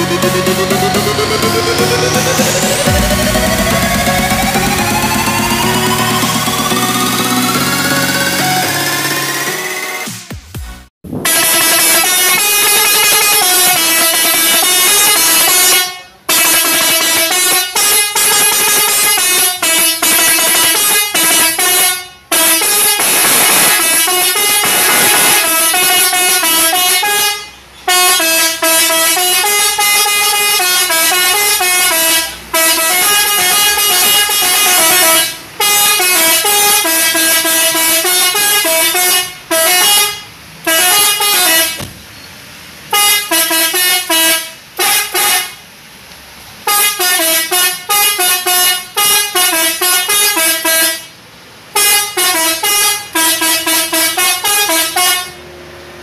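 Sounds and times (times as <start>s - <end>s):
multi-tone horn playing a tune: 0.0s - 10.1s, 11.1s - 41.8s, 42.9s - 45.6s, 46.6s - 51.1s, 51.8s - 55.4s.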